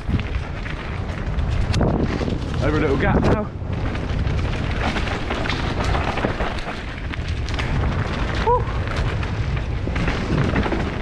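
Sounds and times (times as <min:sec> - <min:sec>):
bike chain and frame rattling: 0:00.0 - 0:11.0
wind buffeting microphone: 0:00.0 - 0:11.0.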